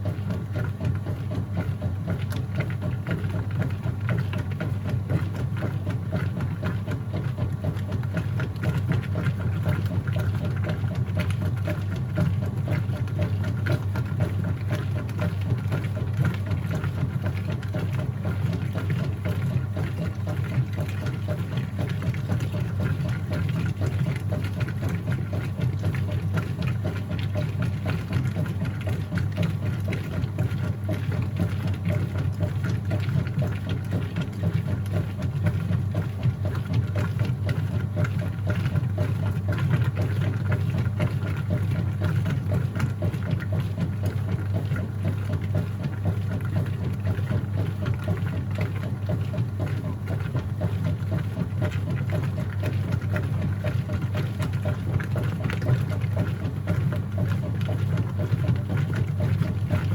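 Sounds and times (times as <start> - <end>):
washing machine motor hum: 0.0 - 59.9
water churning in tub: 0.0 - 59.9.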